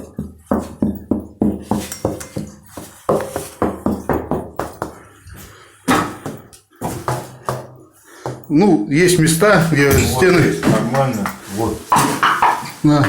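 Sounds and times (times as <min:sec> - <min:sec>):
knocking on ceramic tiles: 0:00.0 - 0:05.1, 0:05.9 - 0:08.5, 0:09.6 - 0:13.0.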